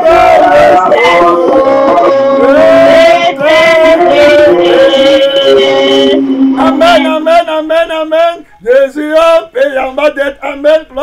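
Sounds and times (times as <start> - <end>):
man singing a slow worship song: 0.0 - 9.4.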